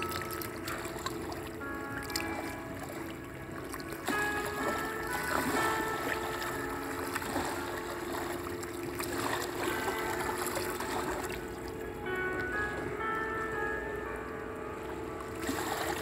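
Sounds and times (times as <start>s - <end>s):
small waves lapping on sand: 0.0s - 13.7s, 15.3s - 16.0s
soft background music: 0.0s - 16.0s.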